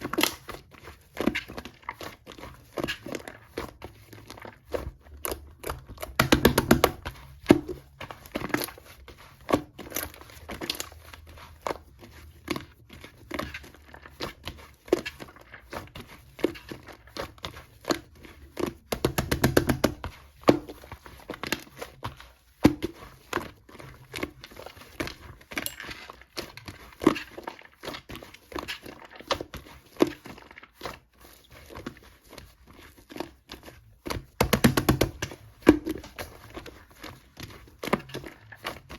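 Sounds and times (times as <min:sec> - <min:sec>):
rapid popping of slime: 0:00.0 - 0:11.0, 0:11.7 - 0:38.9
slime squished by hand: 0:00.0 - 0:38.9.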